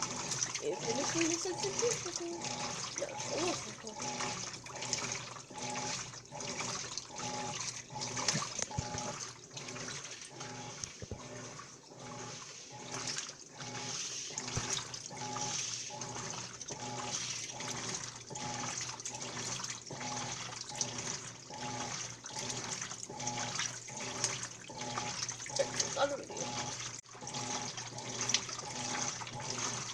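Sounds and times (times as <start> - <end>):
pulsing washing machine hum: 0.0 - 29.9
water sloshing in washing machine: 0.0 - 29.9.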